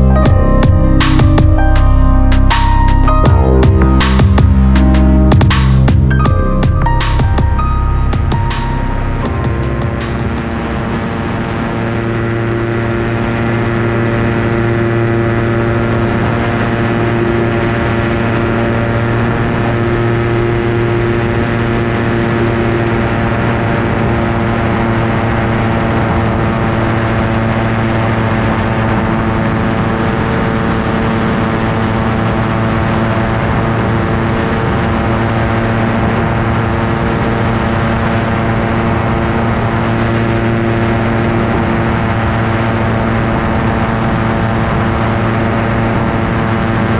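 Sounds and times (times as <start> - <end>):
aircraft engine and propeller drone: 8.3 - 46.9.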